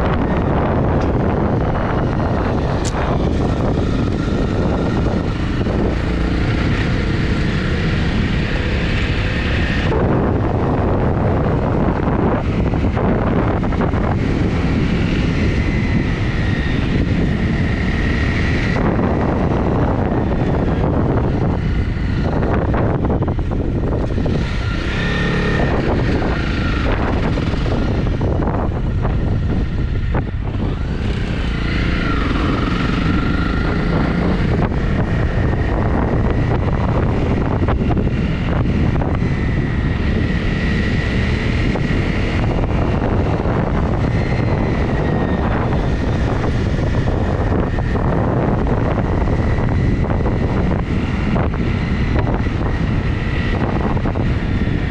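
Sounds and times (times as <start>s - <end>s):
motorcycle engine running: 0.0s - 54.9s
wind rush on microphone: 0.0s - 54.9s.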